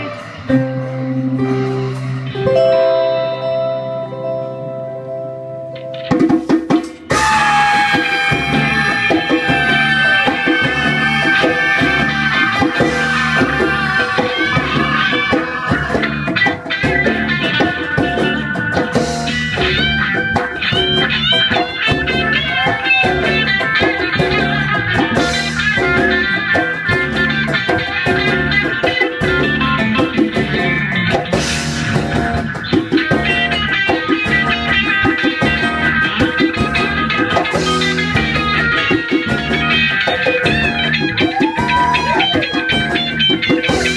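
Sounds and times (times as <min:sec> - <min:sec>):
guitar: 0:00.0 - 0:43.9
drum kit beat: 0:05.8 - 0:43.9.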